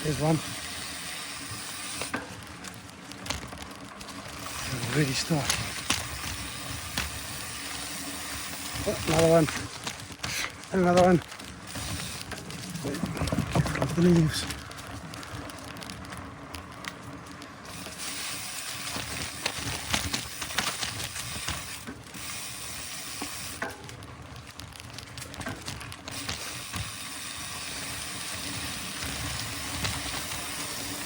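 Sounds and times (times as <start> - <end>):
bike rattling clicks and knocks: 0.0 - 31.0
bike tyres crackling over leaves: 0.0 - 31.0.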